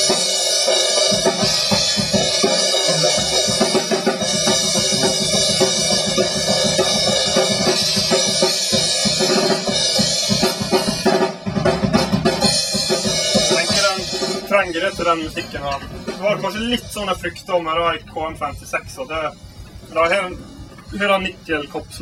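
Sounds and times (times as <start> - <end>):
cymbals: 0.0 - 22.0.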